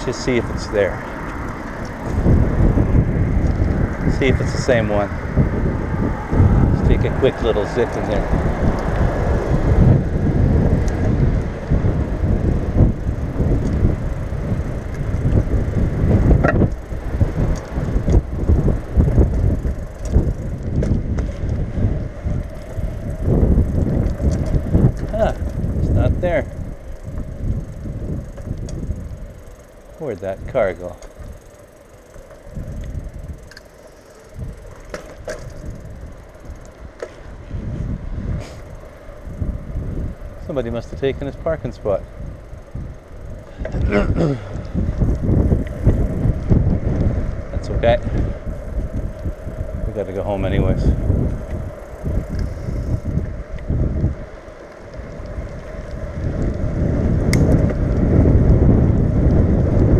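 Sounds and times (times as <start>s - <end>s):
bicycle road noise: 0.0s - 59.9s
bike clicks and rattles: 0.0s - 59.9s
wind buffeting microphone: 0.0s - 59.9s.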